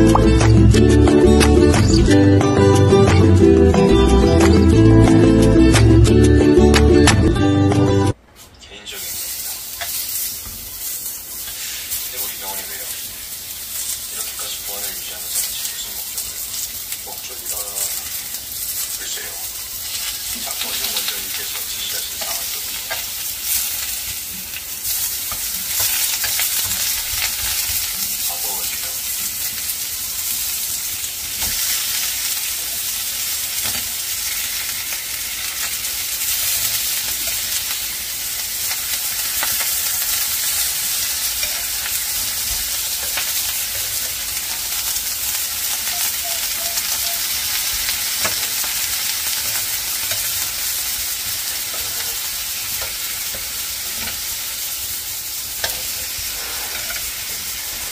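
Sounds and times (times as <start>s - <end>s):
meat sizzling on grill pan: 8.9s - 57.9s.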